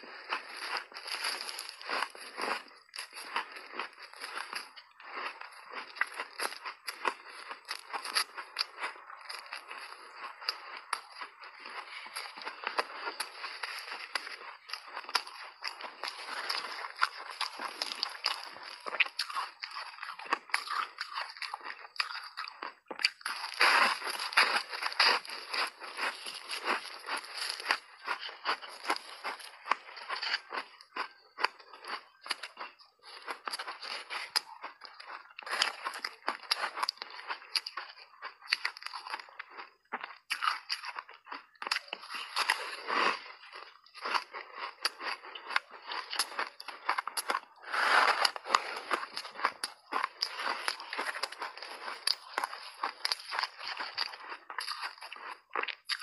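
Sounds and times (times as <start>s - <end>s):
ice crunching between teeth: 0.0s - 56.0s.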